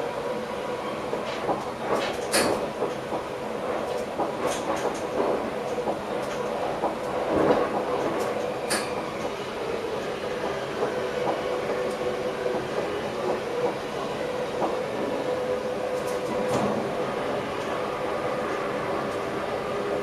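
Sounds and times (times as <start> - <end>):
electric train running on track: 0.0 - 20.0.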